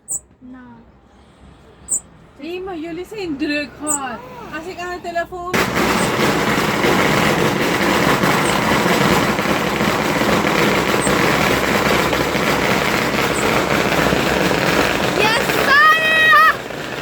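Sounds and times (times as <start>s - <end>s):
firework fountain hissing: 1.6s - 17.0s.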